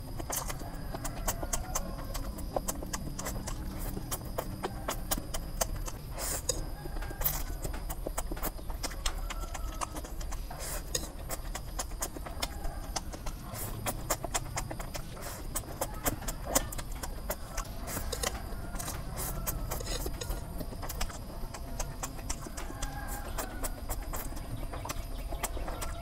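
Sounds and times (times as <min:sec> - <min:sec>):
noodles being slurped: 0:00.0 - 0:09.0, 0:09.6 - 0:26.0
wet mouth clicks and smacks: 0:00.0 - 0:26.0.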